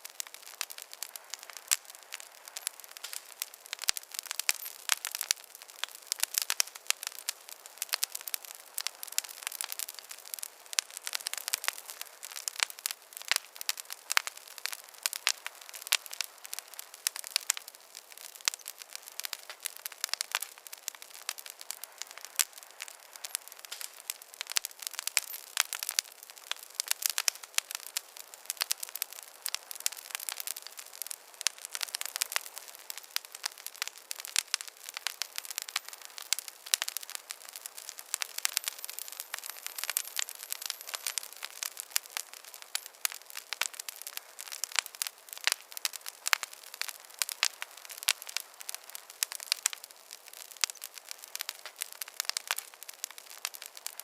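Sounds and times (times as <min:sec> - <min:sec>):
sharp pops and snaps: 0:00.0 - 0:54.0
soft fire hiss: 0:00.0 - 0:54.0
wood fire crackling: 0:00.0 - 0:54.0.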